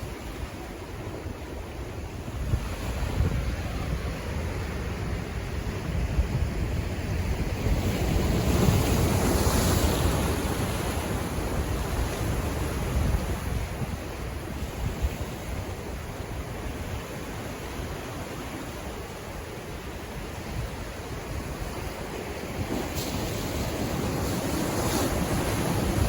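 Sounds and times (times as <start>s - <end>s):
ocean waves washing in: 0.0s - 26.0s
wind rumble on microphone: 0.0s - 26.0s.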